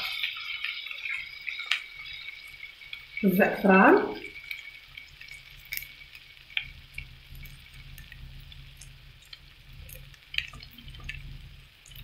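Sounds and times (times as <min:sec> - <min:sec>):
onions and beef sizzling: 0:00.0 - 0:12.0
small clicks and crackles: 0:00.0 - 0:12.0.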